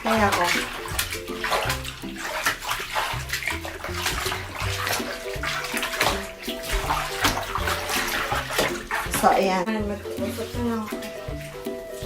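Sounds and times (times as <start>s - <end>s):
background music: 0.0s - 12.0s
water splashing in a bathtub: 0.0s - 12.0s.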